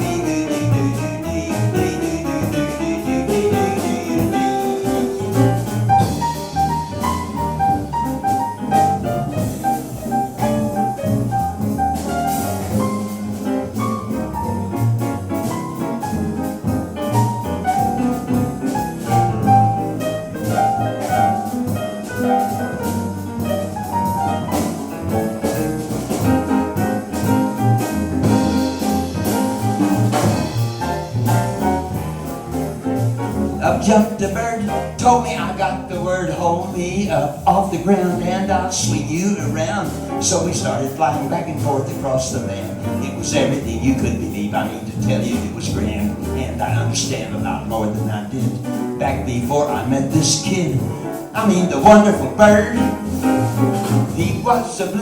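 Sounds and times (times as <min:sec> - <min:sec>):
jazz band playing swing: 0:00.0 - 0:55.0
piano: 0:00.0 - 0:55.0.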